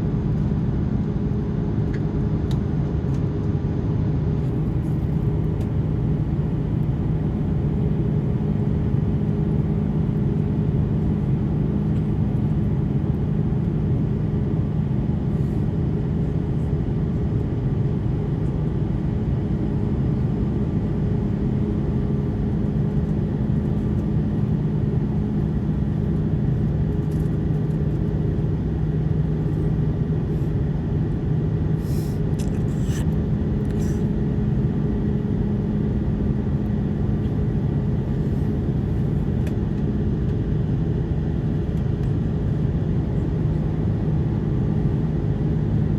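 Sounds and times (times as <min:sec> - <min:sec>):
constant low hum: 0:00.0 - 0:45.9
jet engine drone: 0:00.0 - 0:45.9.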